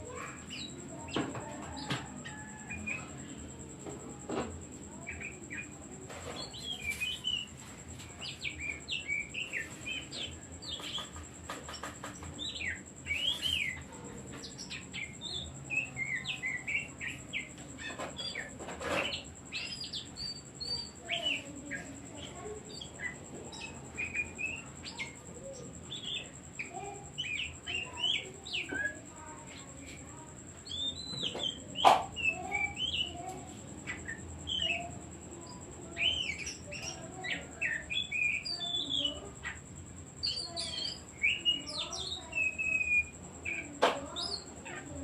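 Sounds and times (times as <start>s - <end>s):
bird singing: 0.0s - 45.0s.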